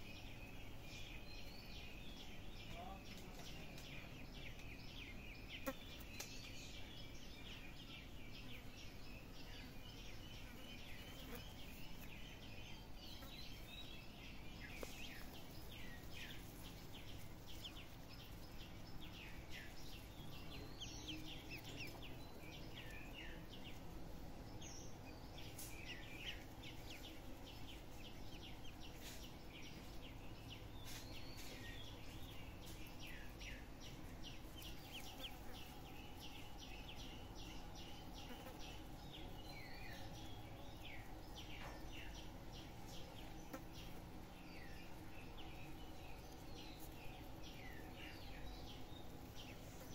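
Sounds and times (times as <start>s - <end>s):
ducklings peeping: 0.0s - 49.9s
faint outdoor background noise: 0.0s - 49.9s.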